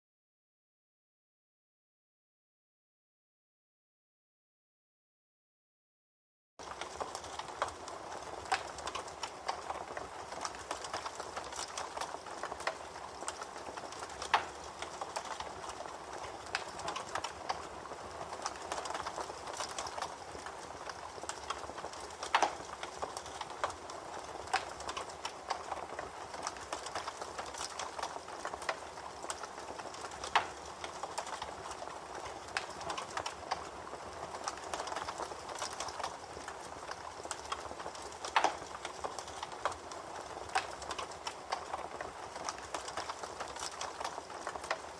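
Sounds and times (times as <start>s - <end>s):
campfire crackling and popping: 6.6s - 44.9s.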